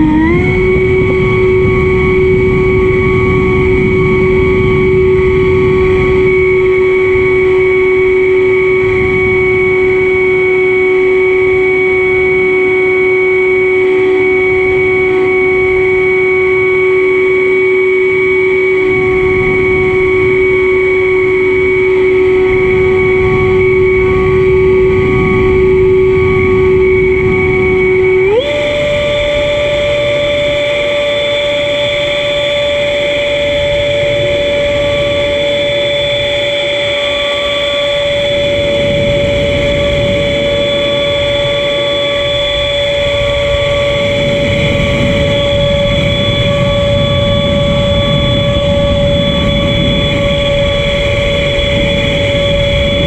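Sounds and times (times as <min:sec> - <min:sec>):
model plane motor and propeller: 0:00.0 - 0:53.0
wind rumble on microphone: 0:00.0 - 0:53.0.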